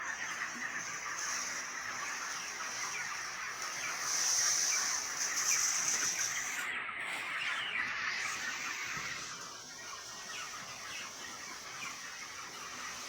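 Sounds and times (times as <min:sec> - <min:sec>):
chickens peeping and chirping: 0:00.0 - 0:13.0.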